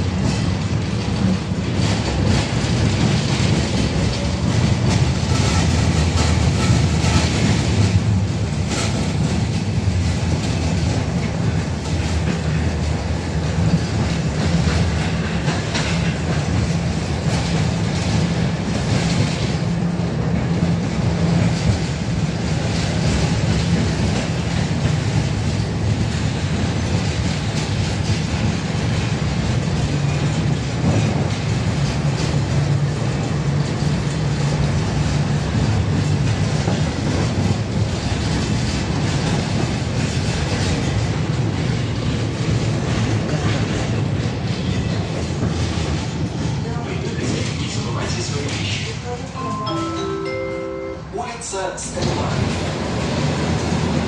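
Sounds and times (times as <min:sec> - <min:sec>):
rail clicks and rattles: 0:00.0 - 0:50.9, 0:51.9 - 0:54.0
tram wheels rumbling: 0:00.0 - 0:54.0.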